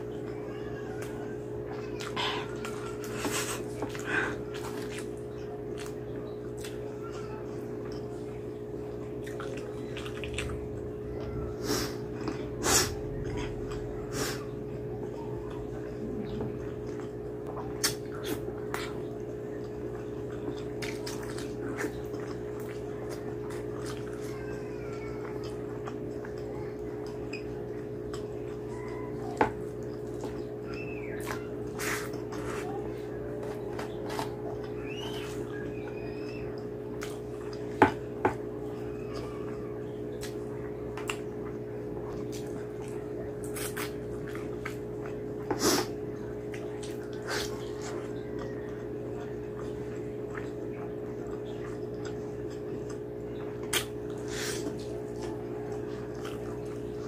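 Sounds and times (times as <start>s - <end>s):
steady low hum: 0.0s - 57.0s
wet chewing: 0.0s - 57.0s
fingers squishing food: 0.2s - 57.0s.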